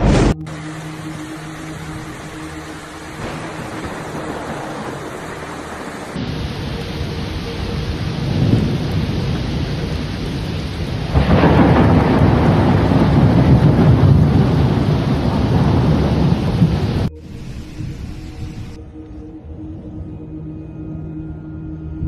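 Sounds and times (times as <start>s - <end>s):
low thunder rumbling: 0.0s - 18.8s
wind and rain thrashing trees: 0.0s - 18.8s.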